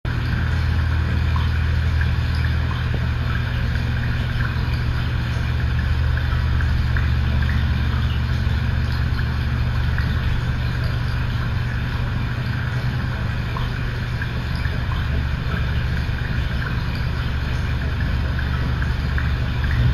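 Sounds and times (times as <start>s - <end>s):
low hum: 0.1s - 19.9s.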